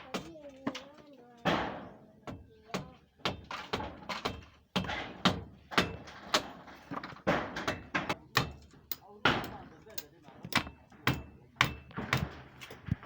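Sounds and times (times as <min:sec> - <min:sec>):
sharp knocks and bangs: 0:01.4 - 0:13.0.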